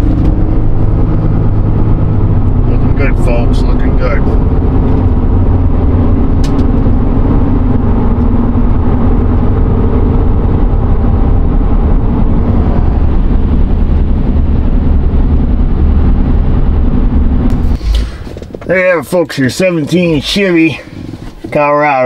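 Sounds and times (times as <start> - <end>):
engine and tyre drone: 0.0 - 21.5.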